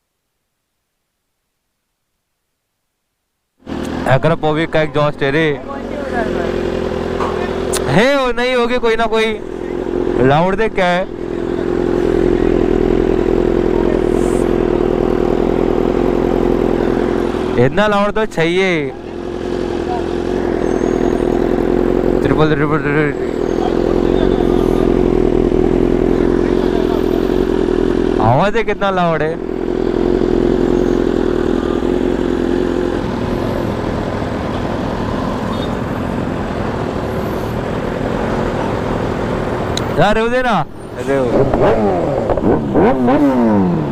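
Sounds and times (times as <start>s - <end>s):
motorcycle exhaust at steady revs: 3.6s - 4.2s, 5.6s - 8.0s, 9.2s - 18.3s, 18.9s - 40.0s, 40.6s - 43.9s
sports car engine idling: 3.6s - 43.9s
traffic noise: 3.6s - 43.9s.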